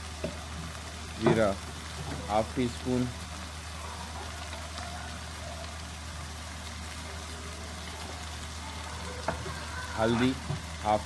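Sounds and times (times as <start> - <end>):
onions frying in oil: 0.0 - 11.0.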